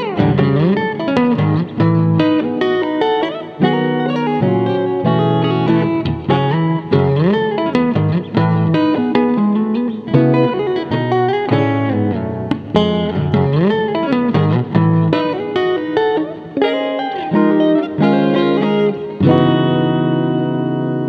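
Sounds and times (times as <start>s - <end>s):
solo electric guitar playing: 0.0s - 21.0s.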